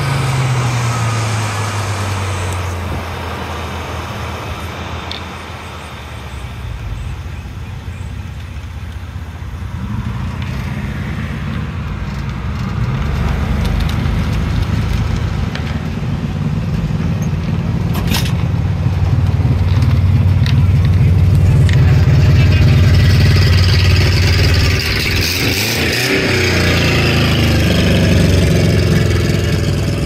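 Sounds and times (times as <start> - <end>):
car engine accelerating: 0.0 - 30.0
road and wind noise: 0.0 - 30.0.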